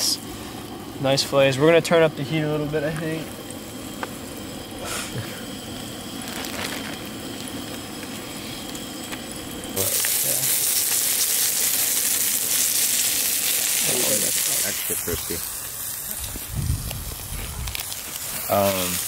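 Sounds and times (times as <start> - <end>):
fish frying in oil: 0.0 - 19.0.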